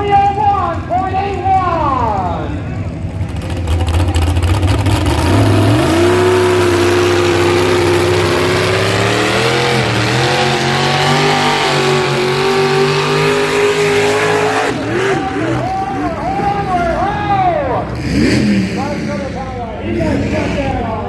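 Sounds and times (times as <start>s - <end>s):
vehicle engine at full throttle: 0.1s - 21.0s.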